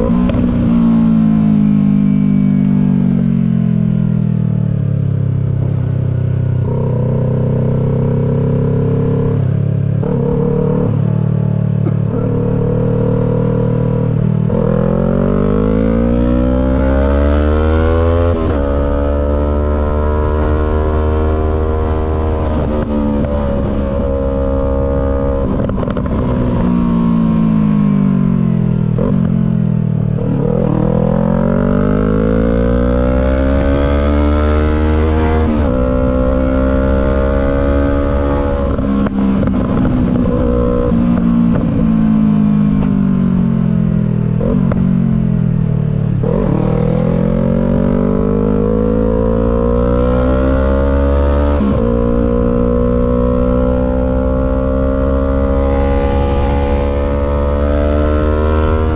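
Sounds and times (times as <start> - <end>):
motorcycle engine changing gears: 5.5 - 58.9.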